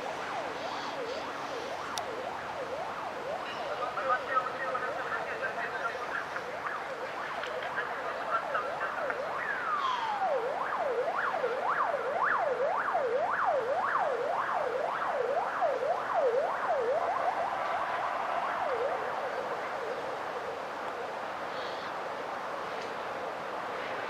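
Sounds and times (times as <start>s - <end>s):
electronic siren yelping: 0.0s - 20.0s.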